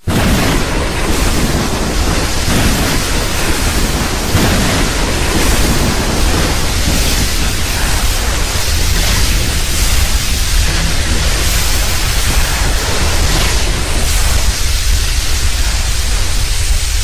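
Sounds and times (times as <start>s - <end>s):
rushing noise with deep rumble: 0.0s - 17.0s.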